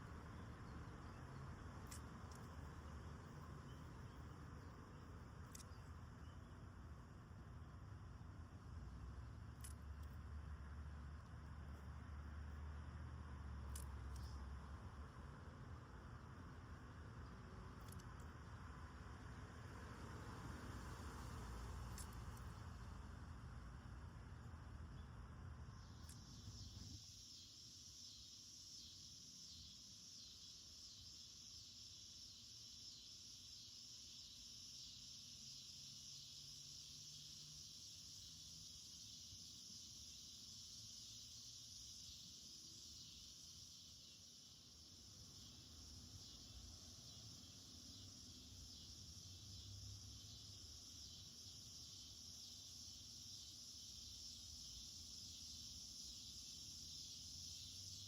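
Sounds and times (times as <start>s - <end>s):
cicada chorus drone: 0.0s - 58.0s.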